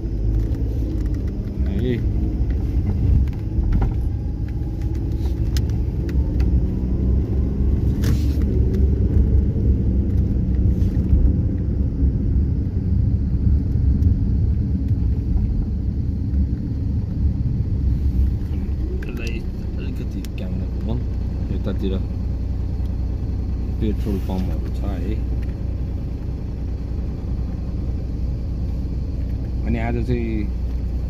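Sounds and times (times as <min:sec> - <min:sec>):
faint engine hum: 0:00.0 - 0:31.0
vehicle rumble in motion: 0:00.0 - 0:31.0.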